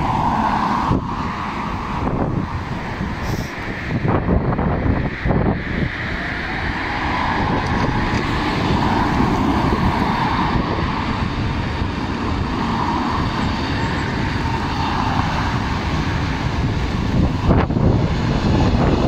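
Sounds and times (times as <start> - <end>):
jet engines running: 0.0 - 19.0
wind rumble on microphone: 0.0 - 19.0.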